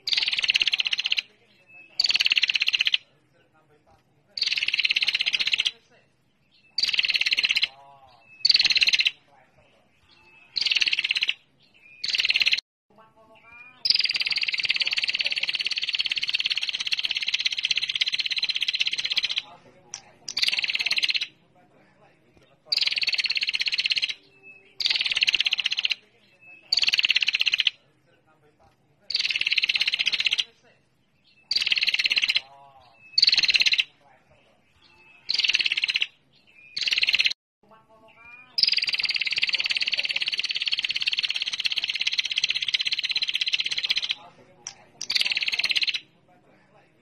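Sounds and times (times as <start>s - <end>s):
bird chattering trills: 0.0s - 3.2s, 4.3s - 5.8s, 6.4s - 12.6s, 13.4s - 21.4s, 22.5s - 28.0s, 29.0s - 37.4s, 38.0s - 46.2s.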